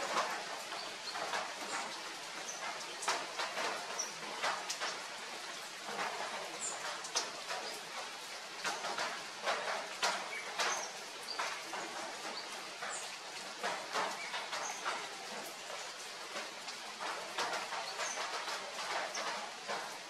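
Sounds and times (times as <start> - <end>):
rain pattering and dripping: 0.0 - 20.0.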